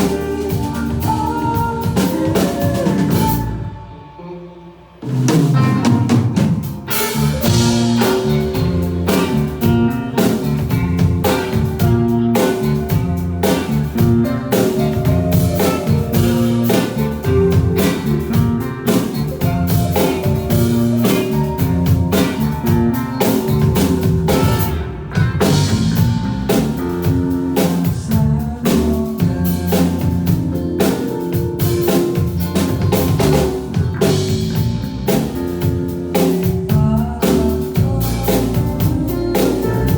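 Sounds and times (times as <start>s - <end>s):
drum kit steady beat: 0.0s - 3.7s, 5.0s - 39.9s
bass guitar: 0.0s - 39.9s
electric guitar: 0.0s - 39.9s.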